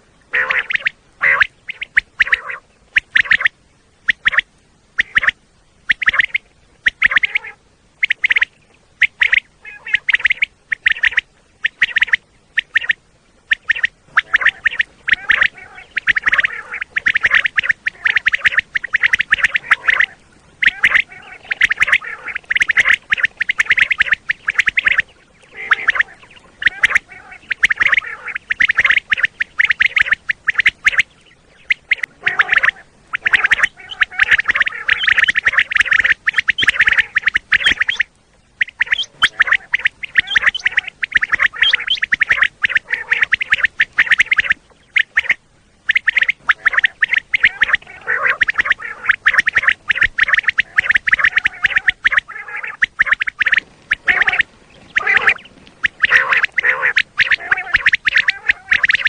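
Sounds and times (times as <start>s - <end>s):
quail calling: 0.3s - 59.0s.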